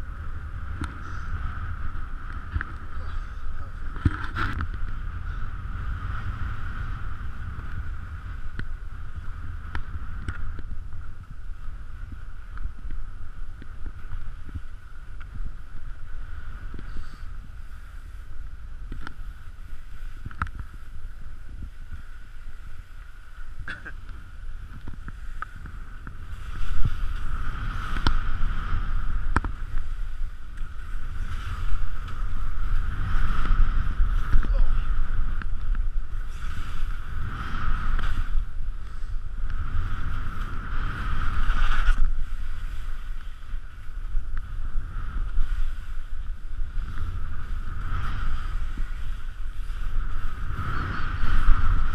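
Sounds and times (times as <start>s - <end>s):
skis sliding on snow: 0.0s - 51.9s
wind noise on microphone: 0.0s - 51.9s.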